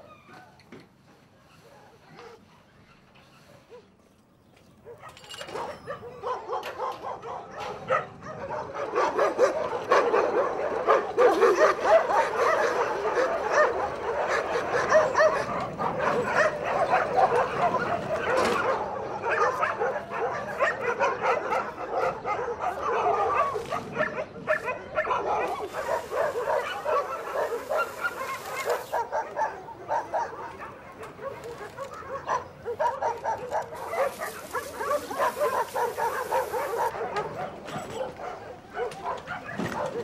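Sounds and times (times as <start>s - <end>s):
dogs barking yipping and whining: 0.0s - 4.0s, 4.6s - 40.0s.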